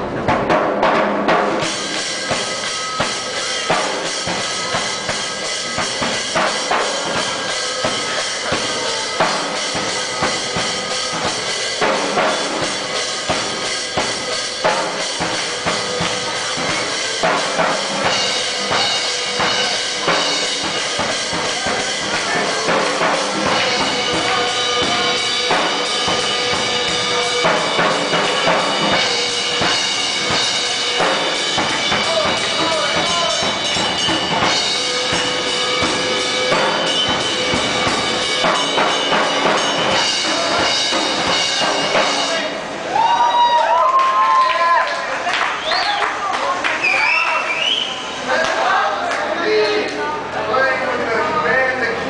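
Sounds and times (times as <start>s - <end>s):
fast drum beat: 0.0s - 43.5s.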